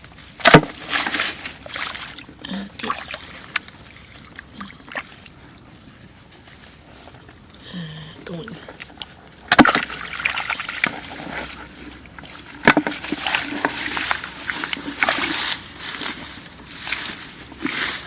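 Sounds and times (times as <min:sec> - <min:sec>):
water and mud splashing: 0:00.0 - 0:18.0.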